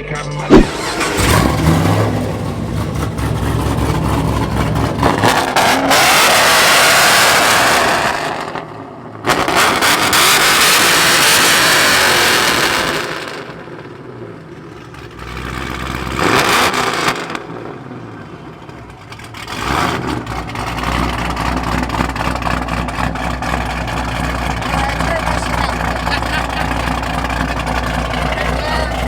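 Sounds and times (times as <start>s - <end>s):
car engine revving and rumbling: 0.0s - 29.0s.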